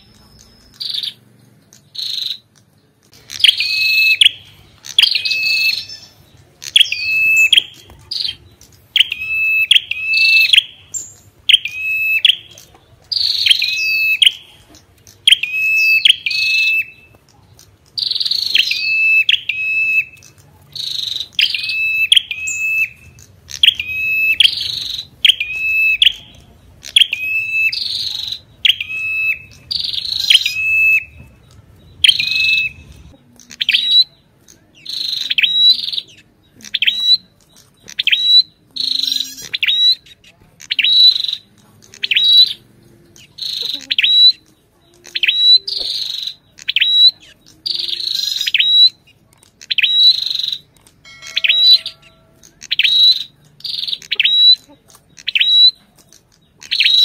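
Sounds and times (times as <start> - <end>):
bird calling sharp notes: 0.0 - 17.2, 17.8 - 55.9.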